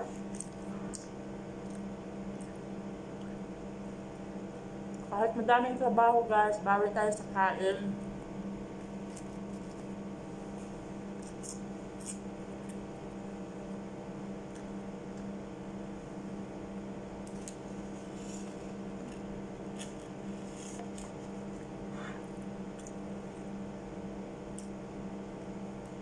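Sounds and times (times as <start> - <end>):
low appliance hum: 0.0 - 26.0.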